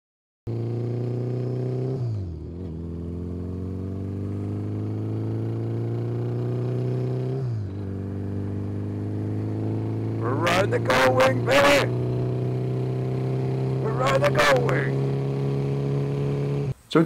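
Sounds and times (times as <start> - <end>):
motorcycle engine accelerating: 0.5 - 16.8.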